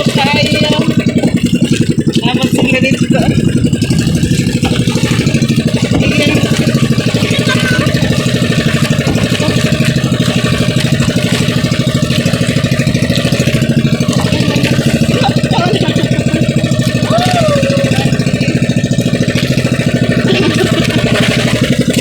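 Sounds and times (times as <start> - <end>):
boat engine chugging: 0.0 - 22.0.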